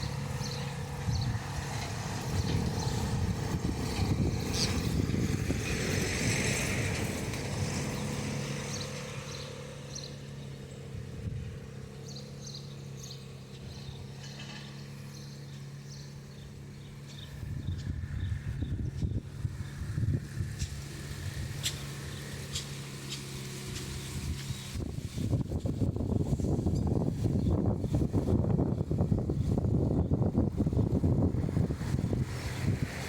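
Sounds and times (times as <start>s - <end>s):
engine running steadily: 0.0s - 33.0s
low uneven rumble: 0.0s - 33.0s.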